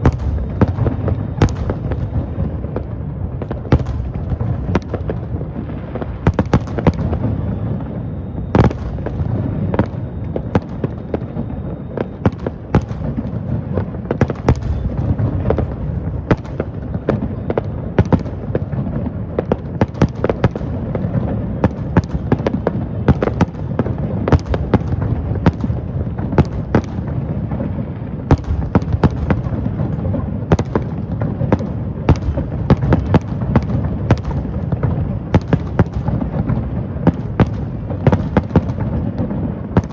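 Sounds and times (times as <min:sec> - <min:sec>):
fireworks bangs and cracks: 0:00.0 - 0:39.9
low rumble of fireworks bursts: 0:00.0 - 0:39.9.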